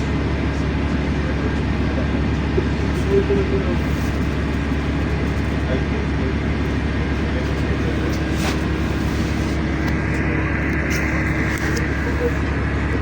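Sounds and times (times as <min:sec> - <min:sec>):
bus engine drone: 0:00.0 - 0:13.0
constant hum: 0:00.0 - 0:13.0
road rumble: 0:00.0 - 0:13.0.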